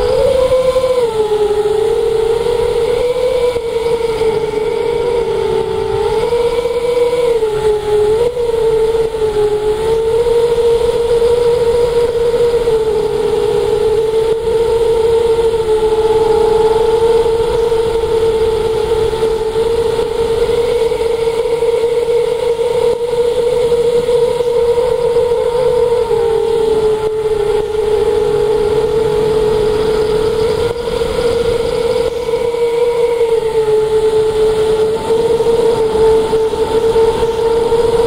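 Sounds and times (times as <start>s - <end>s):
model aircraft motor buzzing: 0.0s - 38.0s
wind on microphone: 0.0s - 38.0s.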